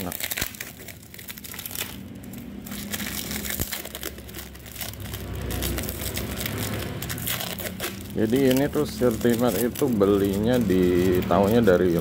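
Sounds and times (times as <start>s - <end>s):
packing tape and paper crinkling: 0.0s - 12.0s.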